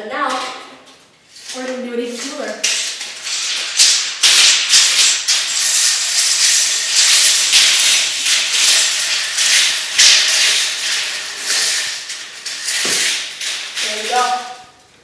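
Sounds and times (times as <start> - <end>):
tape measure blades scraping floor: 0.3 - 14.8.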